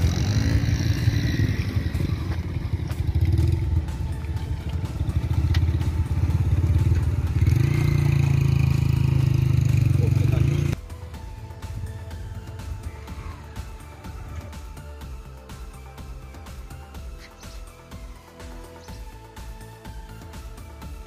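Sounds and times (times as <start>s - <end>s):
motorcycle engine running: 0.0s - 17.2s
motorcycle idling: 0.0s - 19.6s.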